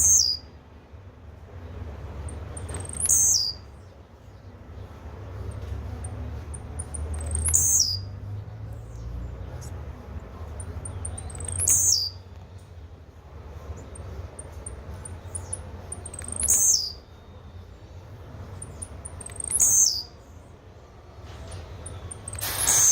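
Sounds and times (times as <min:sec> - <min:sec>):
bird singing buzzy notes: 0:00.0 - 0:00.6, 0:01.6 - 0:22.9.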